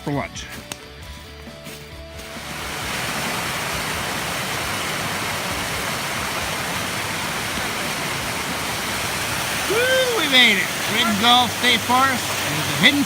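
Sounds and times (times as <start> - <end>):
waterfall rushing: 2.2 - 13.0.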